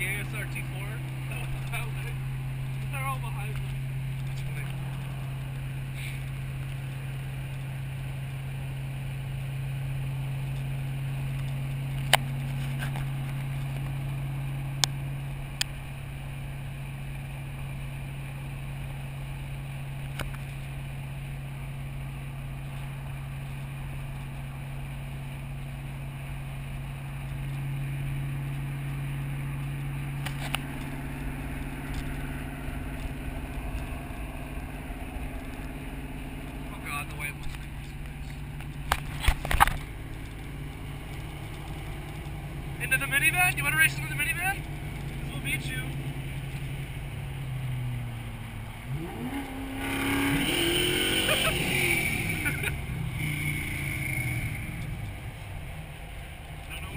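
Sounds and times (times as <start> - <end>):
car engine cruising drone: 0.0 - 56.9.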